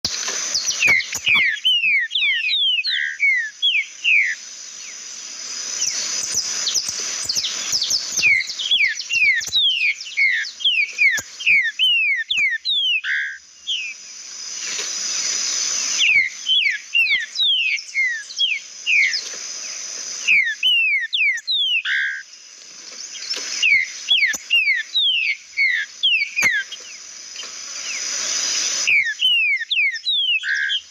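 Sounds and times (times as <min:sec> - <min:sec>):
bird singing whistled notes: 0:00.1 - 0:22.4, 0:23.0 - 0:30.9.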